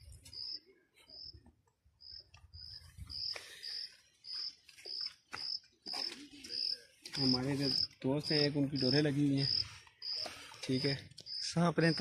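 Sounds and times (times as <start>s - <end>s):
cricket chirping: 0.3s - 0.6s, 2.0s - 12.0s.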